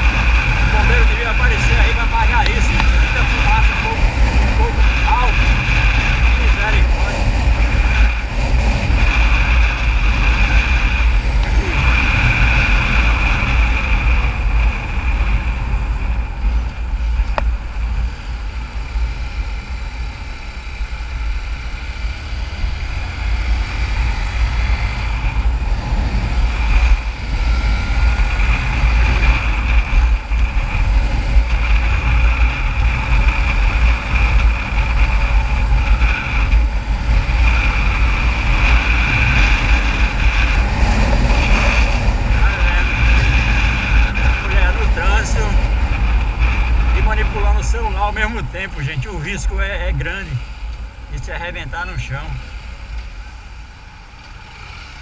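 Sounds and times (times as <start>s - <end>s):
motorcycle engine: 0.0s - 55.0s
wind rush on microphone: 0.0s - 55.0s.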